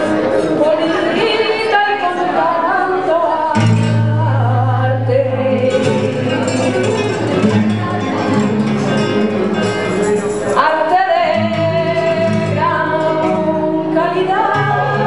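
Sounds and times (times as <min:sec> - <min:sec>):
flamenco guitar: 0:00.0 - 0:15.0
person singing flamenco: 0:00.0 - 0:15.0.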